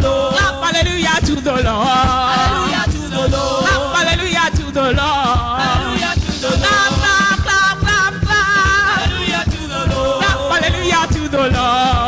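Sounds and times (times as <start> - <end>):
band with steady beat: 0.0 - 12.0
woman singing into microphone: 0.0 - 12.0.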